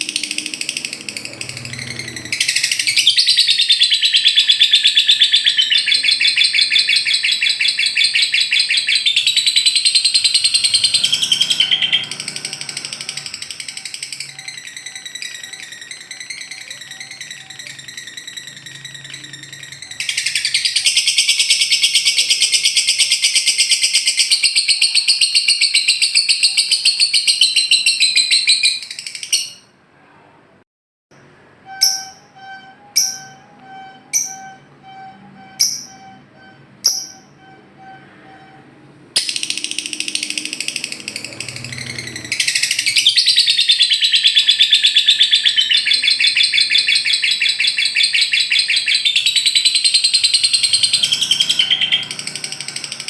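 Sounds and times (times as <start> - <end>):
lovebird chattering trills: 0.0 - 29.6, 39.2 - 53.0
sharp bird chirps: 0.0 - 29.7, 31.7 - 38.6, 39.2 - 53.0.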